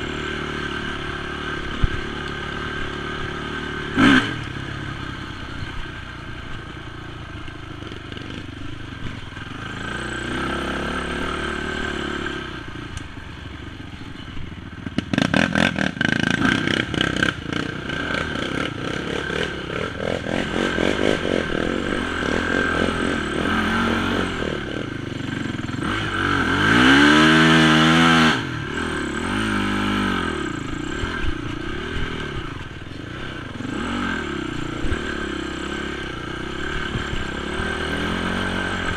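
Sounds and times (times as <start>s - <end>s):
quad engine revving: 0.0s - 7.1s, 7.8s - 13.1s, 14.8s - 38.9s.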